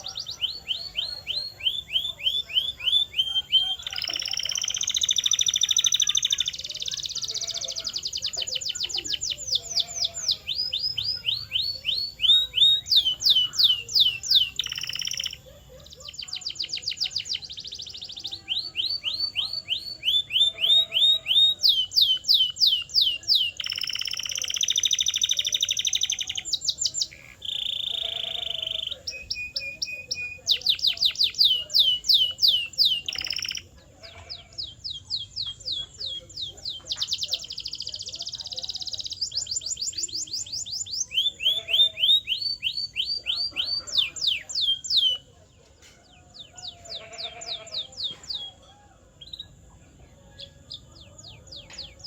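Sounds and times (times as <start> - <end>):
canary singing: 0.0 - 52.0.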